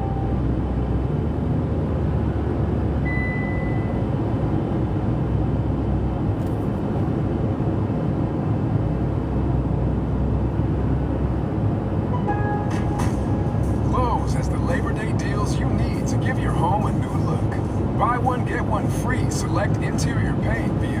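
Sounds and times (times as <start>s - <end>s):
car cabin road and engine rumble: 0.0s - 21.0s.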